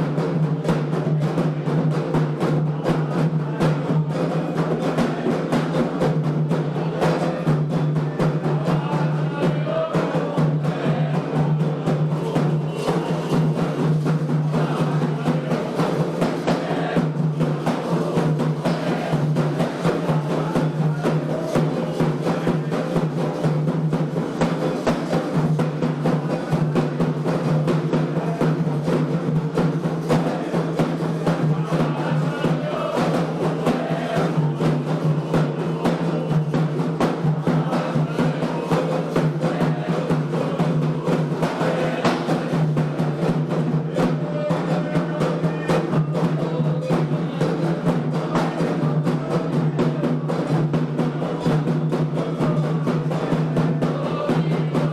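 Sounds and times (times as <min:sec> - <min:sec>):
hand drums playing: 0:00.0 - 0:54.9.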